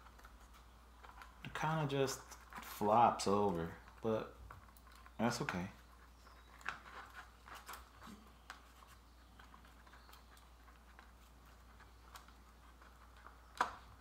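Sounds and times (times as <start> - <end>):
light scratching: 0.0 - 14.0.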